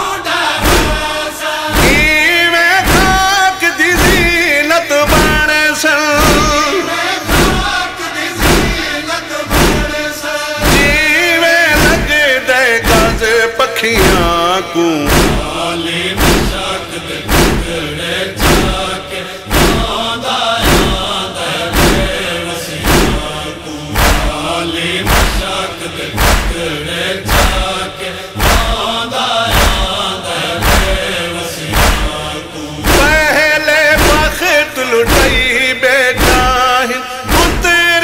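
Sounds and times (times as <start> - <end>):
male voices chanting in chorus: 0.0 - 38.0
chest-beating thumps: 0.6 - 5.6, 6.2 - 13.4, 14.0 - 34.4, 35.1 - 36.6, 37.3 - 37.8.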